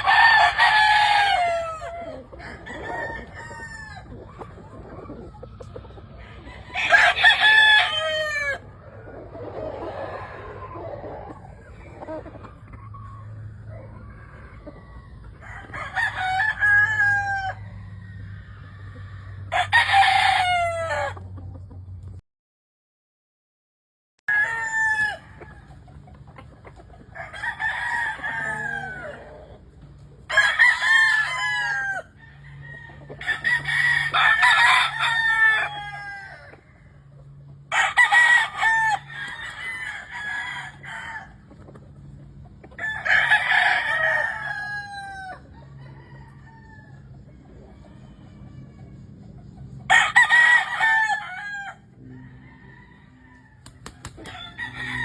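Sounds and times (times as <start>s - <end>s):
roosters crowing: 0.0s - 21.4s, 24.3s - 55.0s.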